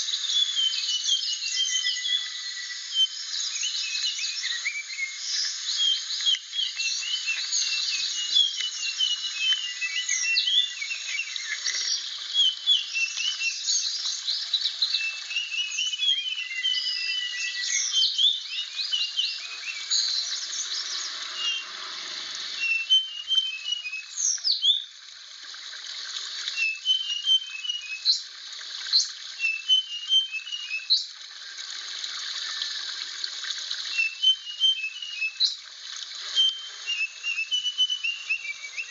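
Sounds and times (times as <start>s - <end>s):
steady high hiss: 0.0s - 38.9s
bird chirping and whistling: 0.1s - 24.8s, 26.6s - 28.2s, 28.9s - 31.1s, 33.9s - 35.6s, 36.2s - 38.9s.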